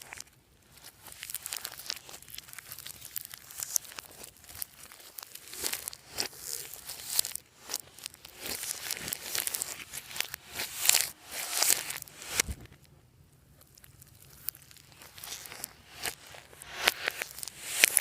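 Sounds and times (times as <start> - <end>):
slime crackling and tearing: 0.0 - 12.8, 13.5 - 18.0.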